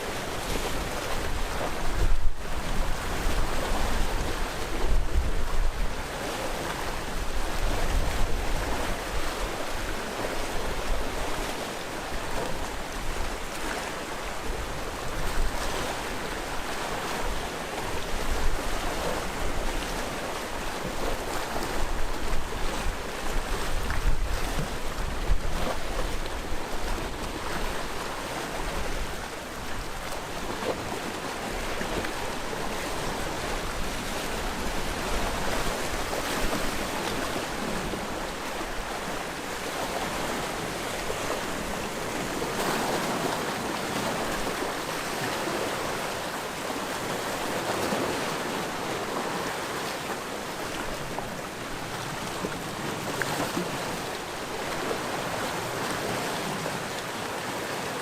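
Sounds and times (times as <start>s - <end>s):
sea waves breaking: 0.0s - 58.0s.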